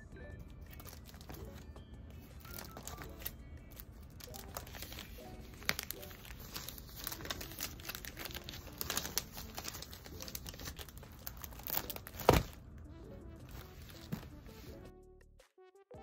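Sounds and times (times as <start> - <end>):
soft background music: 0.0 - 16.0
plastic sleeves crinkling: 0.7 - 1.6, 2.2 - 14.9.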